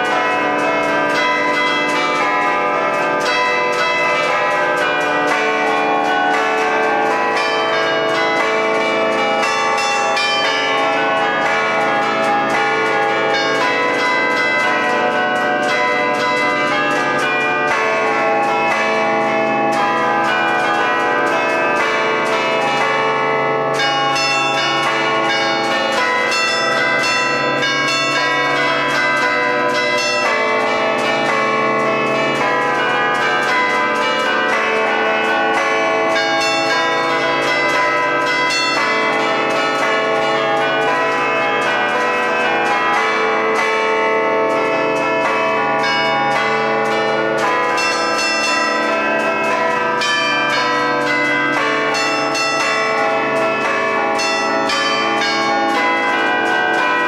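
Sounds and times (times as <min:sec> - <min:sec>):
tower bells playing fast tune: 0:00.0 - 0:57.0.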